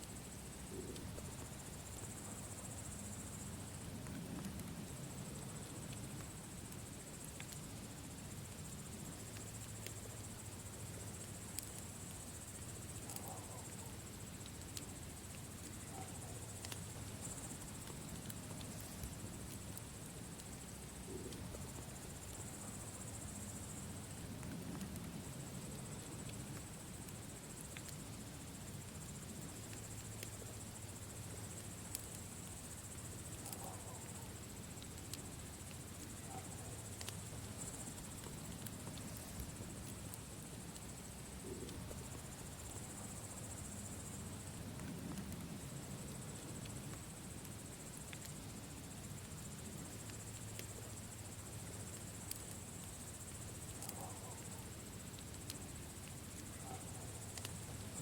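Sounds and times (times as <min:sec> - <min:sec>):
campfire crackling: 0:00.0 - 0:58.0
low fire rumble: 0:00.1 - 0:13.0, 0:13.6 - 0:58.0.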